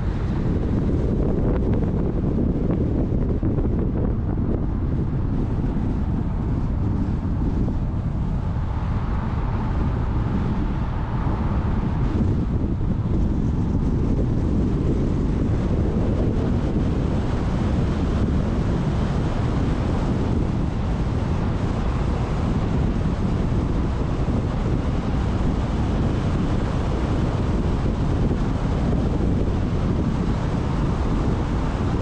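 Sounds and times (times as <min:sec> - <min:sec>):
road noise: 0:00.0 - 0:32.0
wind rumble on microphone: 0:00.0 - 0:32.0.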